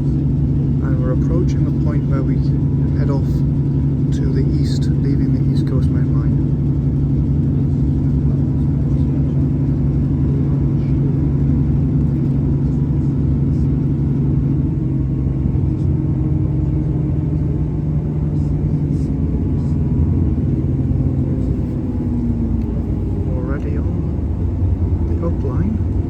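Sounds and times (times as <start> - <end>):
train engine drone: 0.0 - 26.0
wheels rumbling on rails: 0.0 - 26.0.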